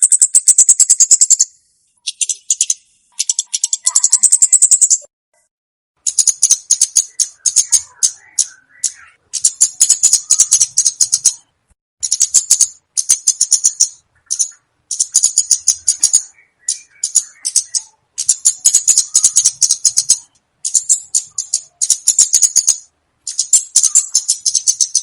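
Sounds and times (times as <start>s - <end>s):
bird chattering trills: 0.0s - 5.1s, 6.0s - 25.0s
faint whistled bird notes: 0.0s - 5.5s, 6.1s - 11.5s, 12.1s - 25.0s.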